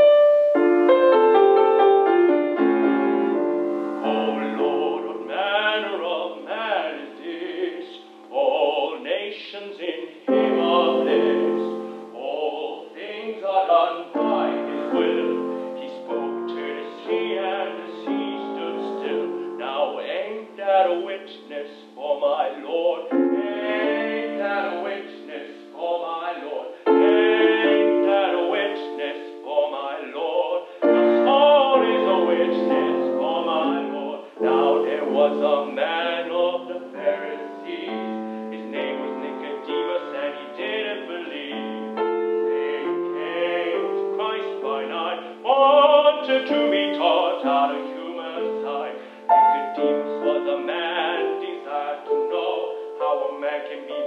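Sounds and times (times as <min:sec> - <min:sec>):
grand piano: 0:00.0 - 0:54.0
man singing operatically: 0:04.0 - 0:54.0.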